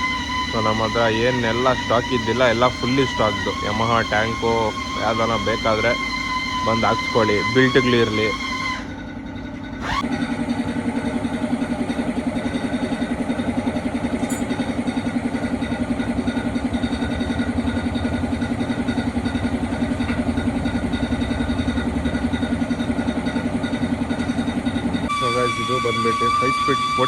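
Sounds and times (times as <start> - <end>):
small engine idling: 0.0 - 27.0.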